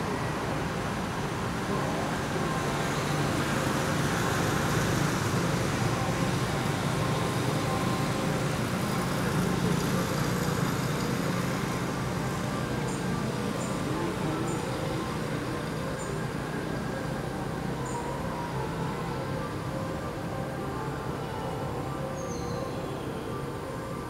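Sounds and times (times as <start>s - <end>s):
distant road traffic: 0.0s - 24.0s.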